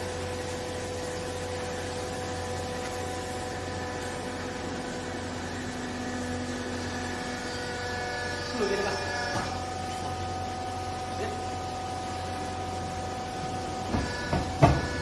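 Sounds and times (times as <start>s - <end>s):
hydraulic motor and pump whine: 0.0s - 15.0s.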